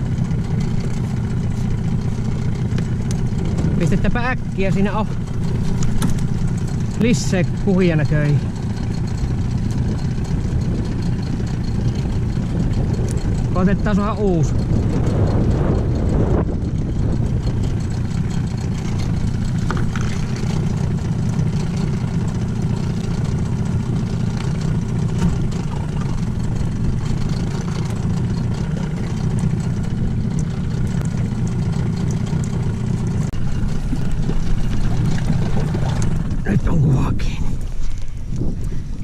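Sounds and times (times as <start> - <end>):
outboard motor idling: 0.0 - 39.0.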